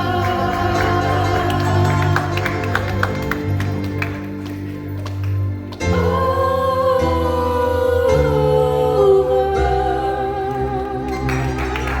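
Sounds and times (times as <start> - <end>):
sustained low chords: 0.0 - 12.0.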